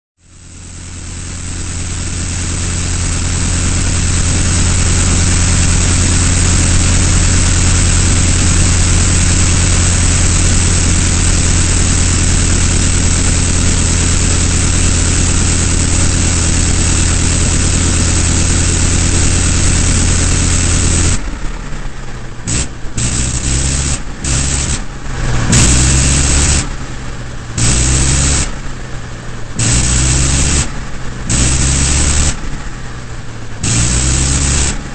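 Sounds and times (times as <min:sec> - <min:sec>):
biplane engine droning: 0:00.3 - 0:34.9.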